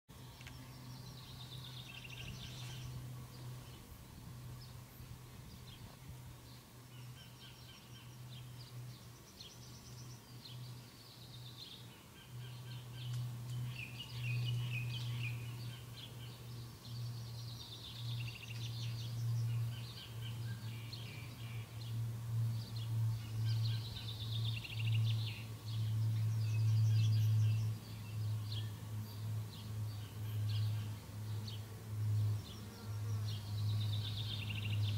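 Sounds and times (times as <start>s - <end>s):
steady low hum: 0.1s - 34.9s
birds chirping and singing: 0.4s - 3.9s, 4.6s - 34.9s.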